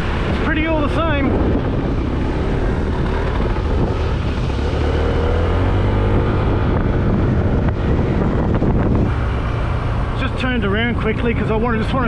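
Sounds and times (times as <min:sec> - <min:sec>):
scooter engine running: 0:00.0 - 0:11.9
wind rush on microphone: 0:00.0 - 0:12.0.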